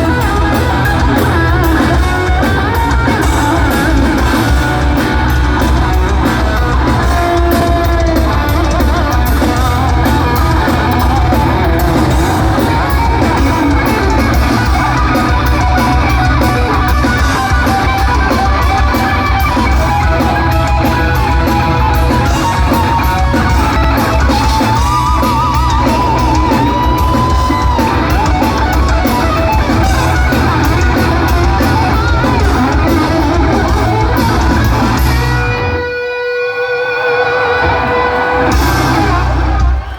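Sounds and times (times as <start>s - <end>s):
bass guitar: 0.0s - 39.9s
distorted electric guitar lead: 0.0s - 39.9s
drum kit: 0.0s - 39.9s.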